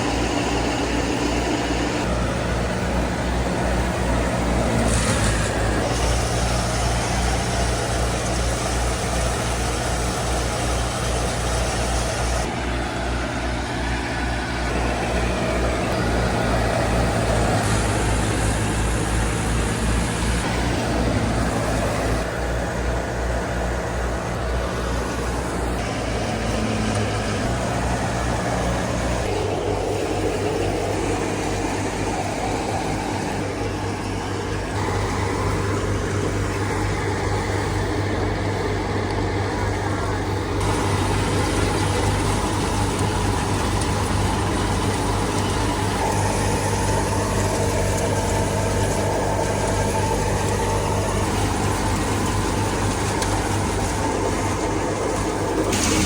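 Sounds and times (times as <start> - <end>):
thresher machinery noise: 0.0 - 56.0
tractor diesel engine under load: 0.0 - 56.0.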